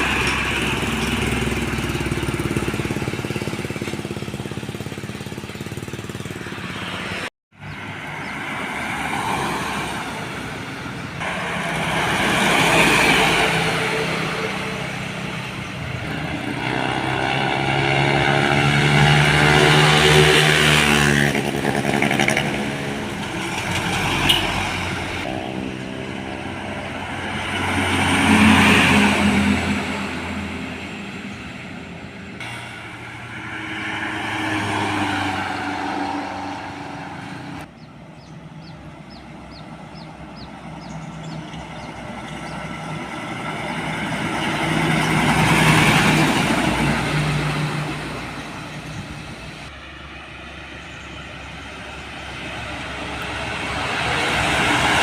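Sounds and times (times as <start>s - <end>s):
heavy vehicles passing: 0.0s - 55.0s.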